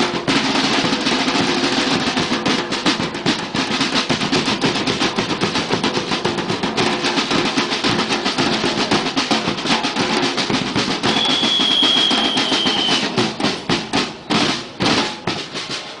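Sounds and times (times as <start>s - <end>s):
snare and bass drums playing: 0.0s - 16.0s.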